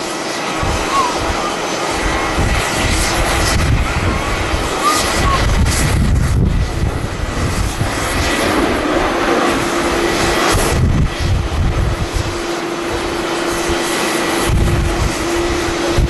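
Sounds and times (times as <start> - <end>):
jet engine whine: 0.0 - 16.0
jet engines roaring: 0.0 - 16.0
wind buffeting microphone: 0.0 - 16.0.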